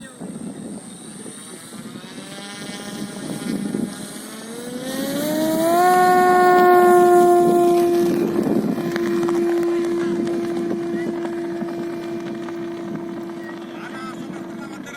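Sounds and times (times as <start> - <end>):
aircraft propeller engine drone: 0.0 - 14.9.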